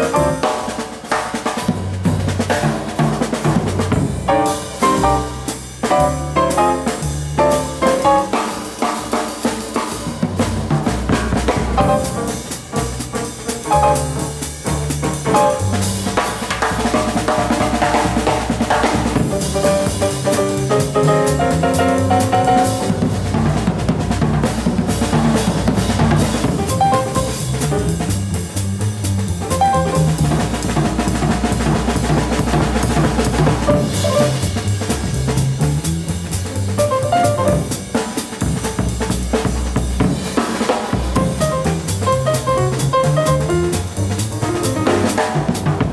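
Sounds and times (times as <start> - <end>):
upright bass: 0.0 - 0.7, 1.7 - 8.5, 10.1 - 40.3, 40.9 - 45.9
drum kit: 0.0 - 45.9
jazz piano: 0.0 - 45.9.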